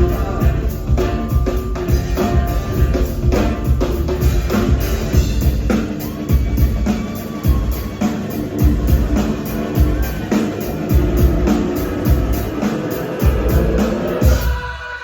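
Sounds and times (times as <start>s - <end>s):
deep bass line: 0.0s - 14.4s
drum kit steady beat: 0.0s - 14.8s
live band playing: 0.0s - 15.0s.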